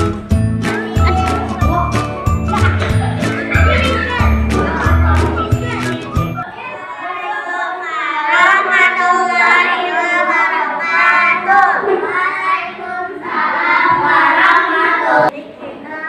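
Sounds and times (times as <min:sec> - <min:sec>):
children singing together: 0:00.7 - 0:16.0.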